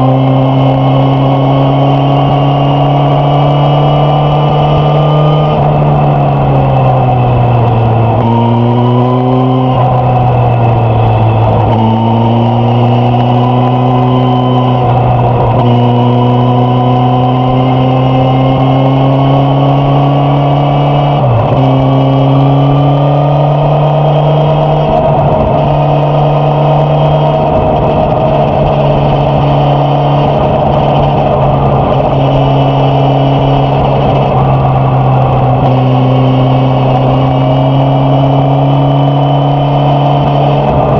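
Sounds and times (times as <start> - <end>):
motorcycle engine on the road: 0.0 - 40.9.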